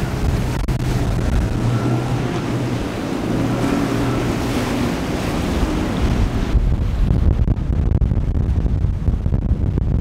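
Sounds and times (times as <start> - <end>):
motorboat engine hum: 0.0 - 10.0
rush of boat wake: 0.0 - 10.0
waves: 0.0 - 10.0
wind buffeting microphone: 0.0 - 10.0.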